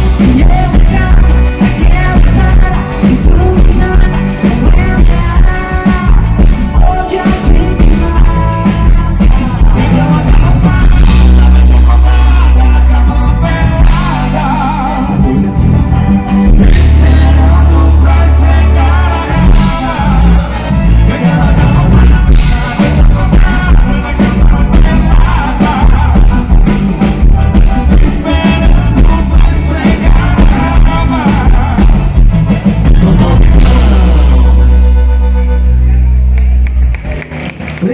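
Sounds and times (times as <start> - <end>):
person singing: 0.0 - 36.4
band playing amplified music: 0.0 - 37.9
heavy bass: 0.0 - 37.9.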